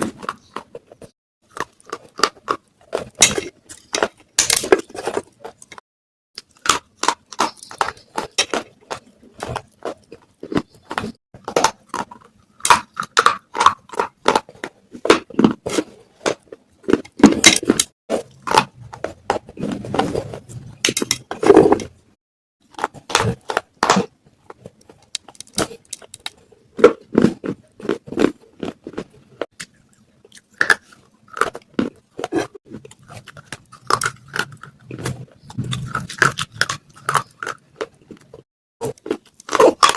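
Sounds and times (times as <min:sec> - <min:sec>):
clay pot pieces crunching: 0:00.0 - 0:05.8, 0:06.4 - 0:22.0, 0:22.6 - 0:39.9.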